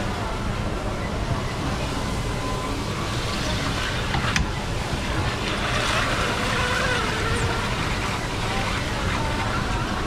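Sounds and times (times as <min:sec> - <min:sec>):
street stall background noise: 0:00.0 - 0:10.0.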